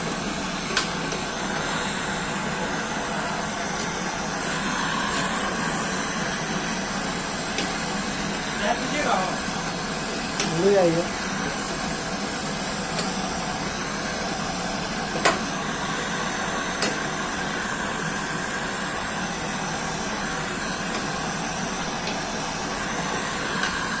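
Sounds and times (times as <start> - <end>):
machine hissing: 0.0 - 24.0.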